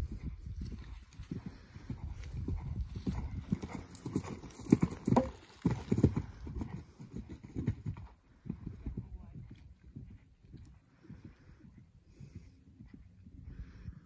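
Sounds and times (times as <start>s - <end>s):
horse hoofbeats cantering on grass: 0.0s - 13.6s.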